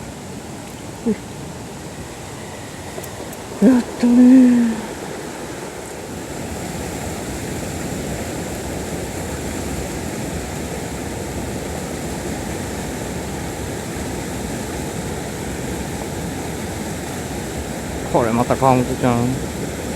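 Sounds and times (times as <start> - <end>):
water rushing over rocks: 3.0 - 19.9.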